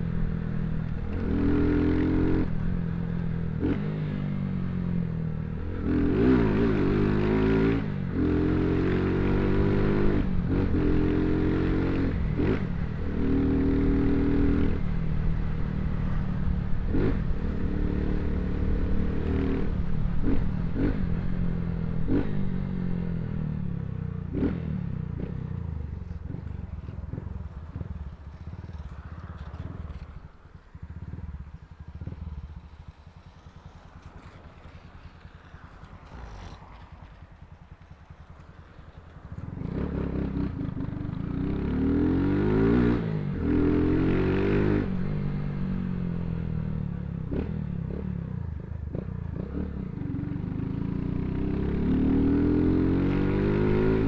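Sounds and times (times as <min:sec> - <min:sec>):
motorcycle engine revving: 0:00.6 - 0:54.0.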